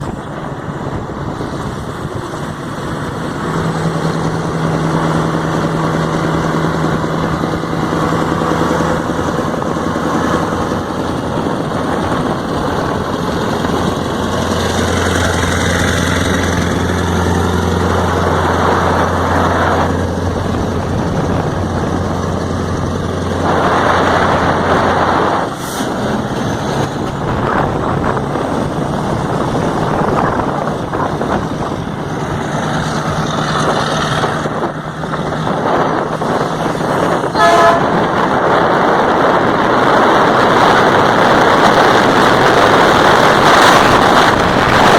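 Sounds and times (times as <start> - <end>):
car engine rumbling: 0.0 - 44.9.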